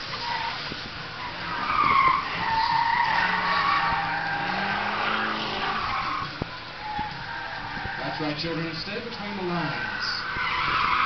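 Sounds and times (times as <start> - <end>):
car engine: 0.0 - 11.0
tyres squealing: 0.0 - 11.0.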